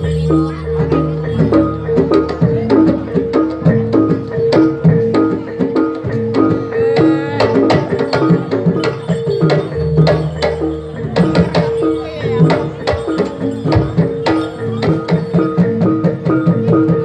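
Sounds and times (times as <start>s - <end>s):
tuned metal percussion notes: 0.0s - 17.0s.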